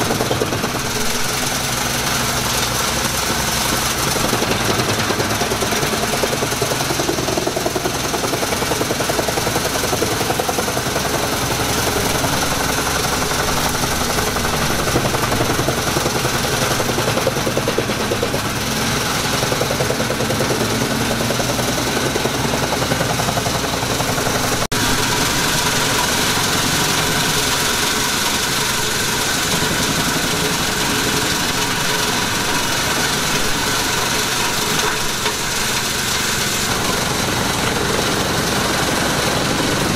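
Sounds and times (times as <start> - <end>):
tractor diesel engine under load: 0.0 - 39.9
wood chipper chewing branches: 0.0 - 39.9.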